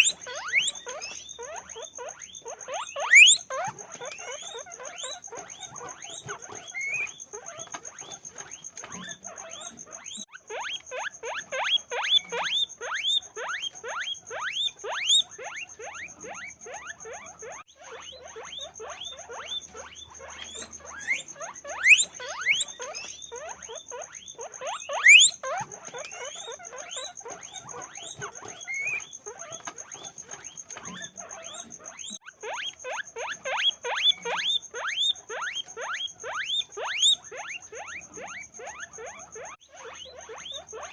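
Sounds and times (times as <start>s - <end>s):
guinea pigs squeaking: 0.0s - 40.9s.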